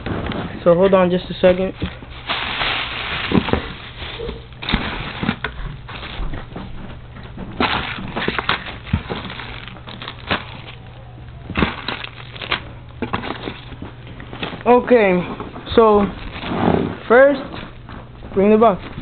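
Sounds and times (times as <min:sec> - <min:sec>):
rustling fireworks packaging: 0:00.0 - 0:06.8, 0:07.4 - 0:19.0.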